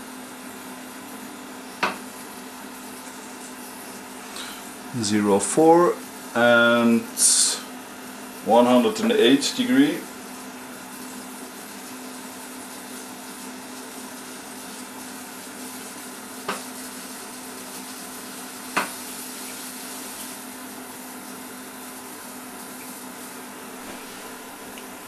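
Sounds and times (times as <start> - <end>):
cooking machine hum and hiss: 0.0 - 25.0.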